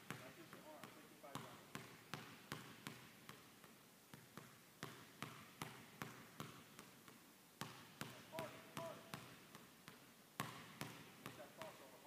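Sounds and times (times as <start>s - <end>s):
basketball bouncing on hardwood floor: 0.0s - 0.2s, 0.8s - 11.7s.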